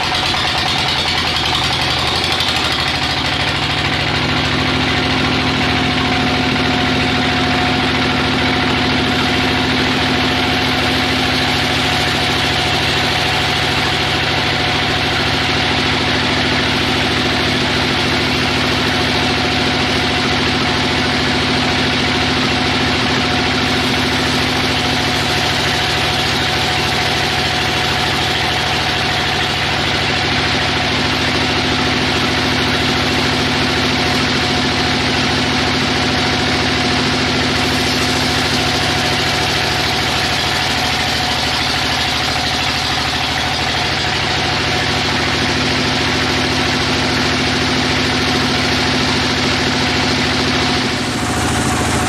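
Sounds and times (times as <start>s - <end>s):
sawmill machinery humming: 0.0s - 52.0s.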